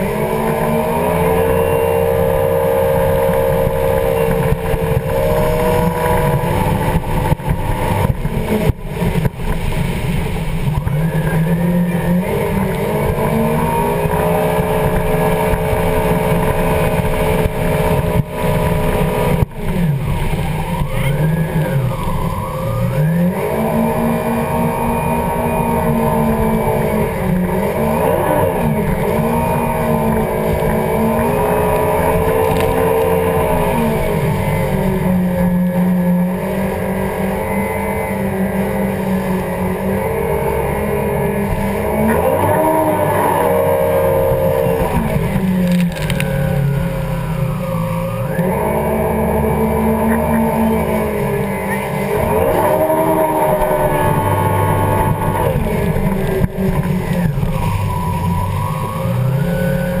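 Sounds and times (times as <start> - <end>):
water spray rushing: 0.0 - 59.6
jet ski engine running: 0.0 - 60.0.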